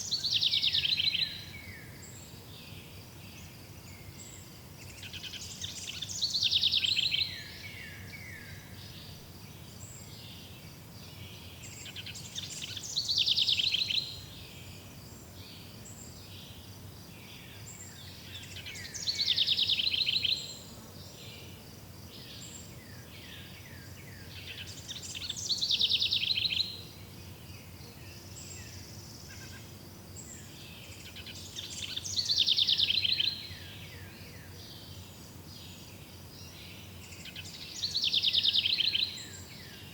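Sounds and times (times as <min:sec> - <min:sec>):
songbird trilled song: 0:00.0 - 0:20.6, 0:22.2 - 0:39.9
background hiss: 0:00.0 - 0:39.9.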